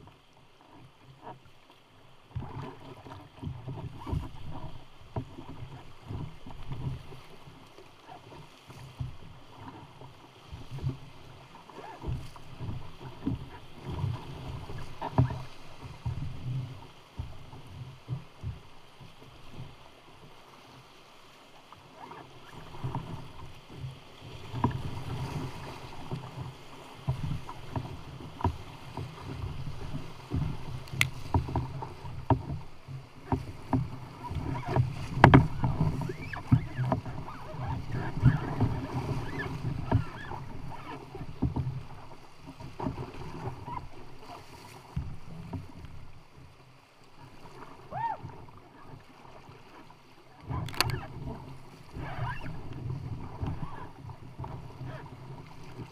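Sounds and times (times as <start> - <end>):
rushing water: 0.0 - 55.9
water splashing against hull: 0.0 - 55.9
paddle digging into water: 2.2 - 20.5, 21.7 - 46.2, 47.2 - 55.9.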